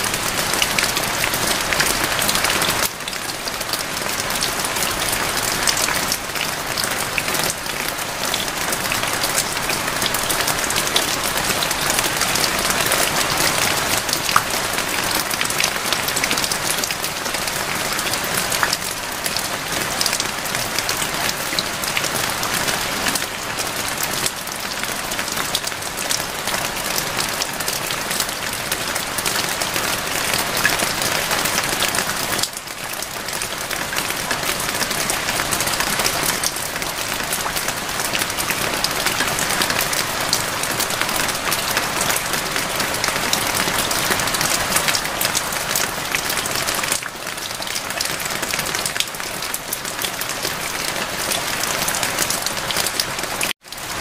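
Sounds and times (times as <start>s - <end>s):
raindrops ticking on surfaces: 0.0s - 54.0s.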